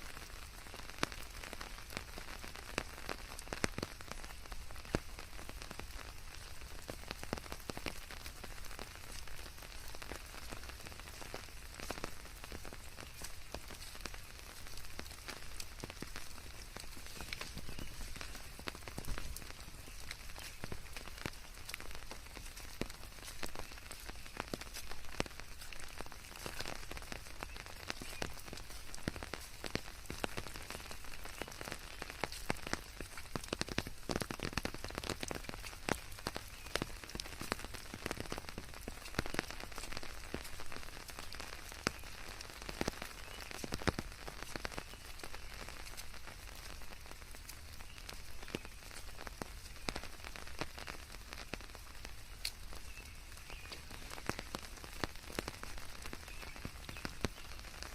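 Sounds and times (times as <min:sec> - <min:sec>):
rain drops hitting: 0:00.0 - 0:57.9.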